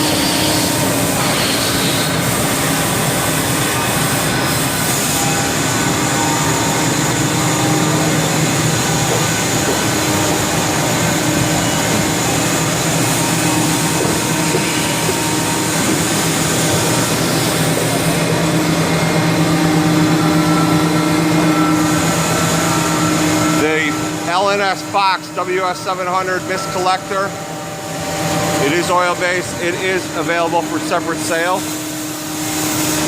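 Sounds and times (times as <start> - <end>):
machine mechanical hum: 0.0 - 33.0
steady tones: 0.0 - 33.0.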